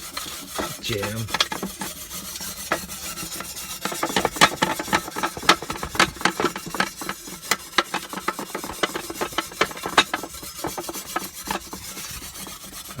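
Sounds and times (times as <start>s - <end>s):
wire brush scrubbing griddle: 0.0s - 13.0s.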